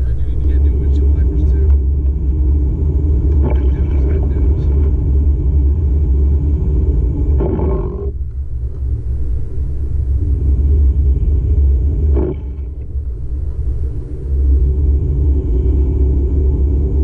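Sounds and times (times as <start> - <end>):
engine and tyres rumbling: 0.0 - 17.0.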